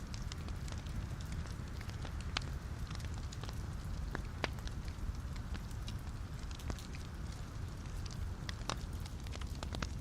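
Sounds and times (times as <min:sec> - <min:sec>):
fire crackles and pops: 0:00.0 - 0:10.0
low rumble of flame: 0:00.0 - 0:10.0.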